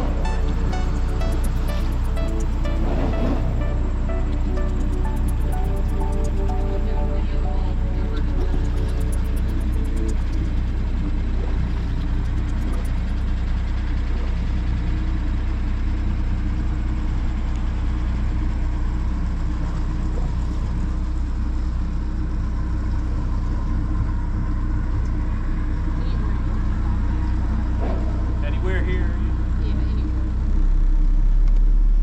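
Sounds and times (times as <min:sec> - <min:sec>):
boat engine droning: 0:00.0 - 0:31.2.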